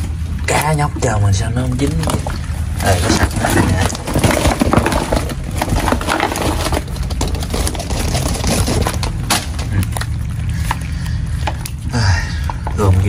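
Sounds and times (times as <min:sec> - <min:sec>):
fish thrashing and splashing: 0:00.0 - 0:13.0
steady low rumble: 0:00.0 - 0:13.0.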